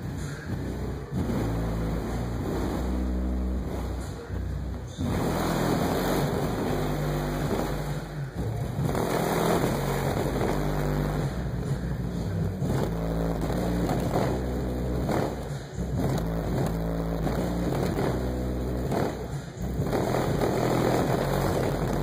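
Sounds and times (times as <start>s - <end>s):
bass-heavy music through car speakers: 0.0s - 22.0s.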